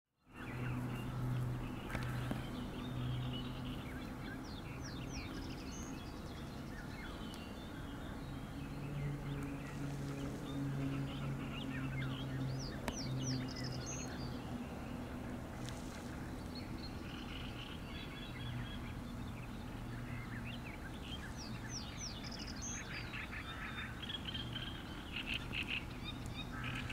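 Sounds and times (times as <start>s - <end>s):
starlings chattering: 0.4s - 26.9s.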